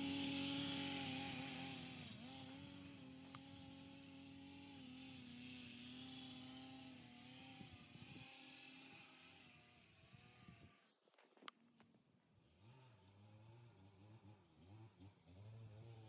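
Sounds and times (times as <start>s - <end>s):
distant snowmobile engine: 0.0s - 16.0s.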